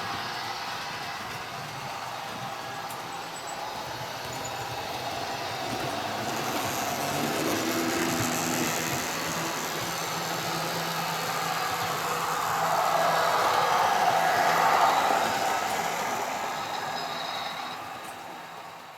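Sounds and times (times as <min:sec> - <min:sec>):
model train motor hum: 0:00.0 - 0:18.9.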